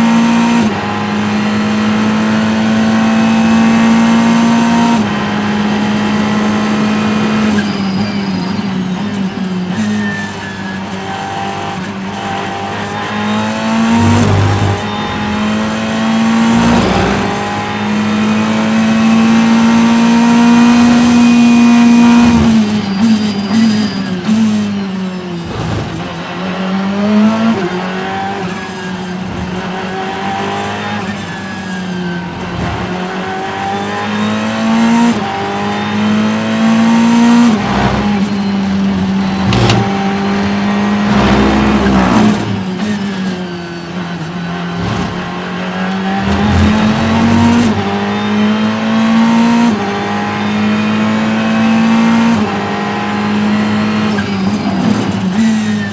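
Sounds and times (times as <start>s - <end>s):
engine downshifts under braking: 0.0s - 24.8s, 27.1s - 55.9s
race car engine at full throttle: 0.0s - 55.9s.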